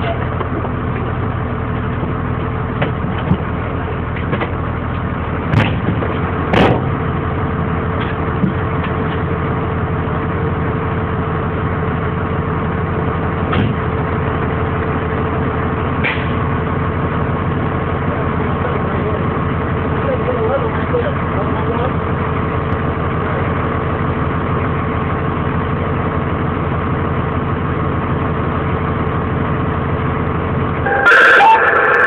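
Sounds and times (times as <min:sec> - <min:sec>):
fire engine droning: 0:00.0 - 0:32.0.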